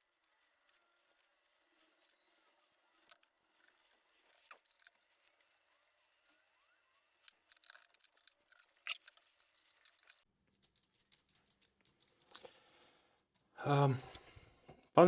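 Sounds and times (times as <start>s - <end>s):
faint clicks: 0.0s - 14.8s.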